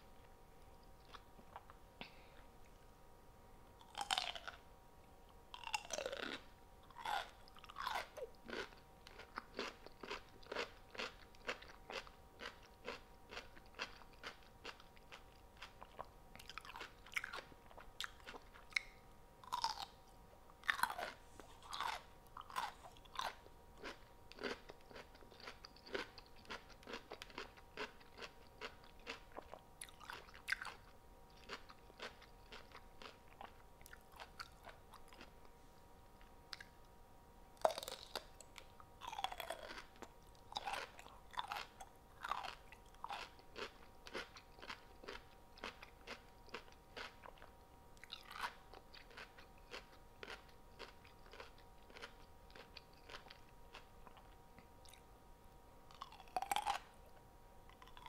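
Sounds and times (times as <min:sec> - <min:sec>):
person chewing crunchy food: 0:00.8 - 0:01.8, 0:03.8 - 0:04.6, 0:05.5 - 0:35.6, 0:37.6 - 0:55.1, 0:55.9 - 0:58.0.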